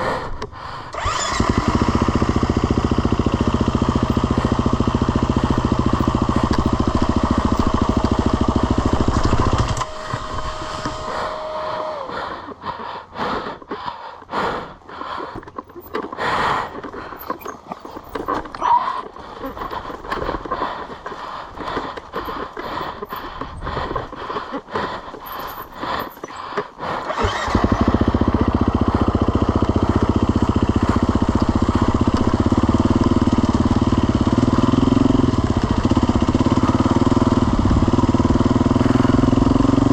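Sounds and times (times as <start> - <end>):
engine crackling and popping: 0.4 - 11.2, 12.5 - 39.9
motorcycle engines running: 0.9 - 12.1, 15.0 - 39.9.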